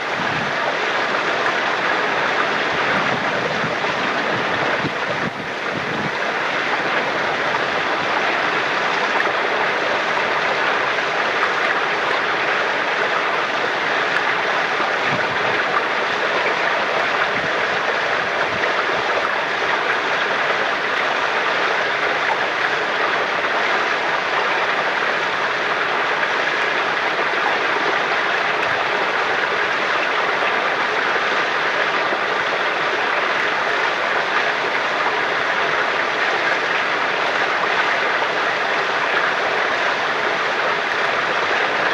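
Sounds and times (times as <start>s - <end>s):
water flowing steadily: 0.0s - 41.9s.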